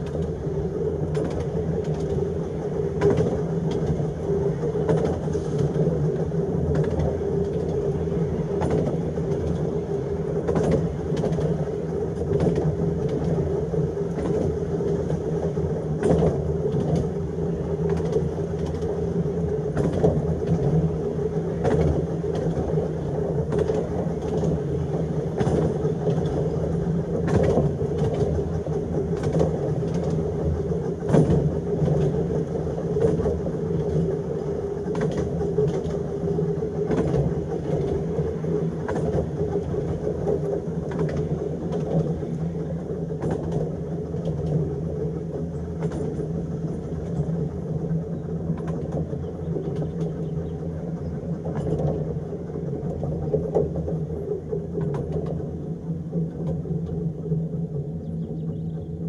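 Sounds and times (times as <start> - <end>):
tram motor hum: 0.0 - 59.0
wheels rumbling on rails: 0.0 - 59.0.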